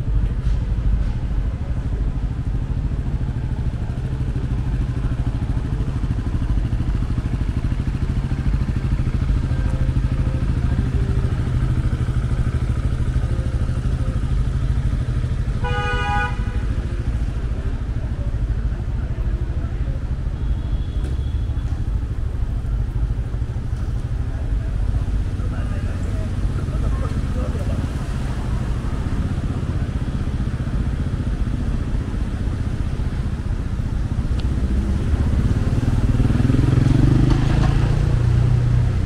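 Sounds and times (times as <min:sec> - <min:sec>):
traffic engine rumble: 0:00.0 - 0:39.0.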